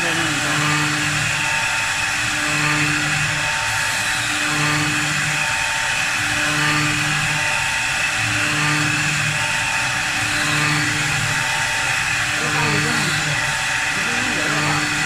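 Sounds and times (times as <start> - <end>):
wood lathe cutting with hiss: 0.0 - 15.0.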